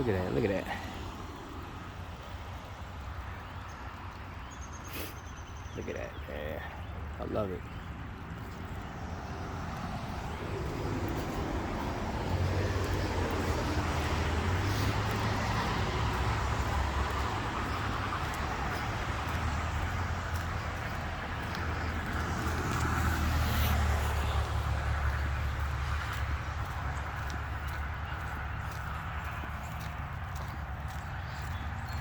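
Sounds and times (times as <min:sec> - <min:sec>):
cars passing: 0:00.0 - 0:32.0.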